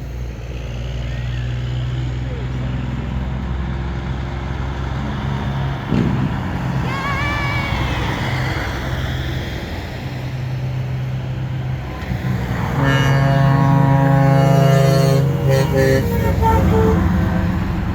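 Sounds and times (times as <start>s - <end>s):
truck engines rolling by: 0.0s - 17.9s.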